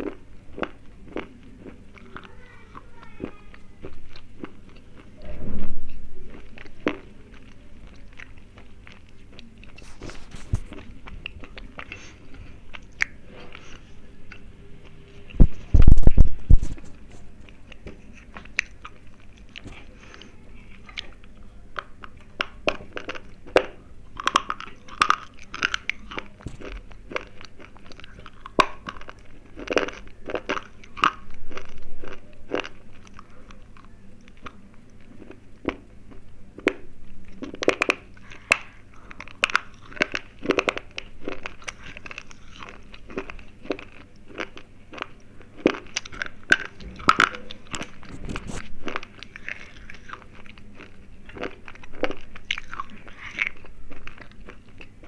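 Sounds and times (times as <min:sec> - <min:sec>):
slate pencils chewed crunching: 0:00.0 - 0:05.2, 0:06.2 - 0:15.8, 0:16.6 - 0:55.0.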